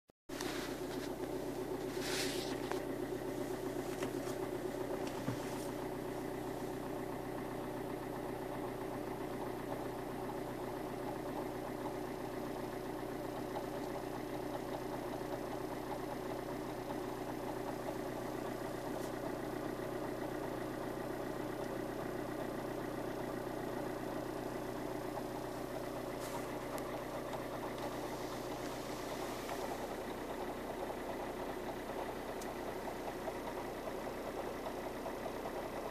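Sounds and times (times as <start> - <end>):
diesel engine idling rattling: 0.3 - 35.9.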